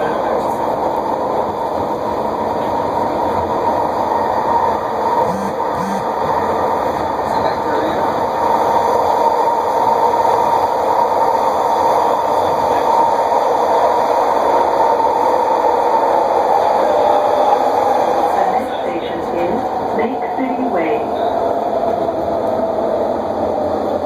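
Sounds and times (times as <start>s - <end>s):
train car rumble and hiss: 0.0s - 24.0s.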